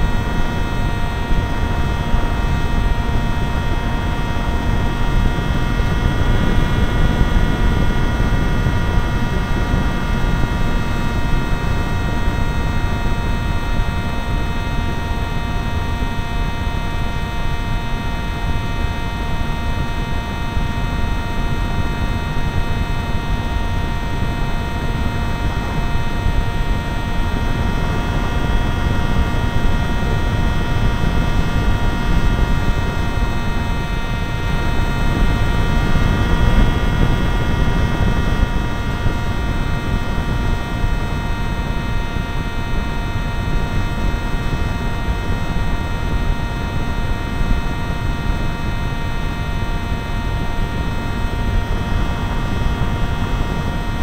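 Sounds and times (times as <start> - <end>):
wind on microphone: 0.0 - 14.9, 21.4 - 54.0
electric motor and propeller whine: 0.0 - 54.0.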